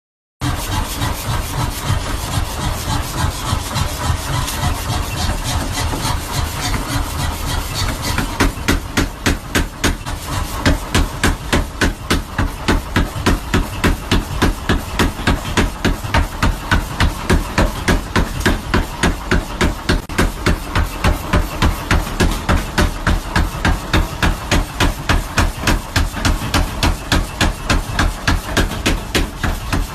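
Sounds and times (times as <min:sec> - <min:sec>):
power hammer blows on steel: 0:00.4 - 0:29.9
power hammer machine running: 0:00.4 - 0:29.9.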